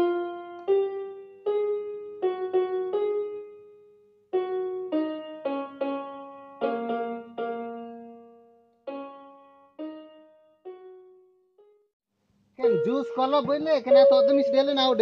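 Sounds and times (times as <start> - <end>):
slow keyboard melody: 0.0 - 11.9, 12.6 - 15.0.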